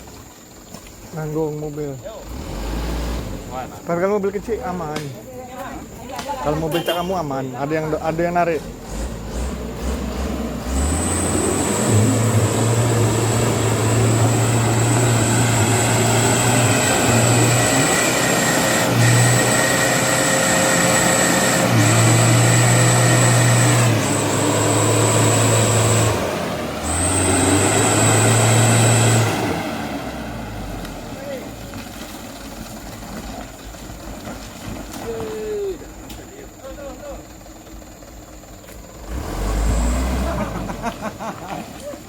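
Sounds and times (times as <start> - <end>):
diesel truck engine revving: 2.2 - 5.0, 6.5 - 35.0, 35.9 - 42.0.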